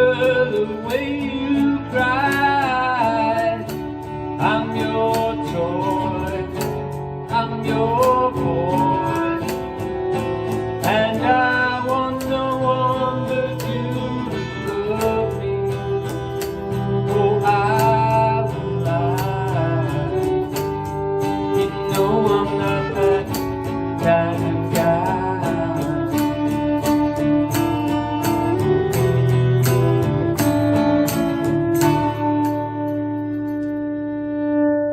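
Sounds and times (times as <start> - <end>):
bass guitar: 0.0 - 34.9
lead guitar bending notes: 0.0 - 34.9
strummed guitar: 0.0 - 34.9.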